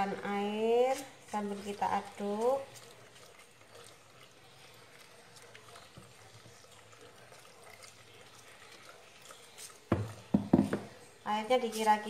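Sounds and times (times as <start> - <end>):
spoon stirring batter: 0.0 - 12.0
water trickling into bowl: 0.0 - 12.0.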